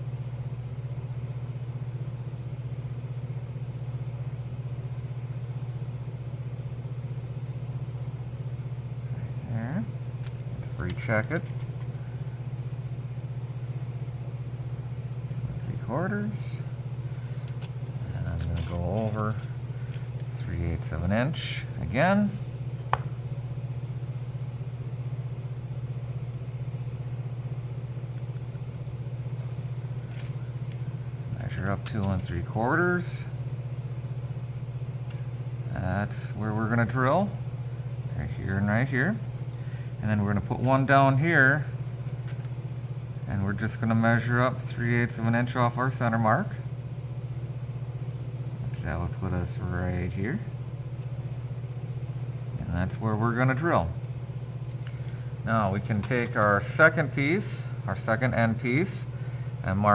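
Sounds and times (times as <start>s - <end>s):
pulsing machine hum: 0.0s - 59.9s.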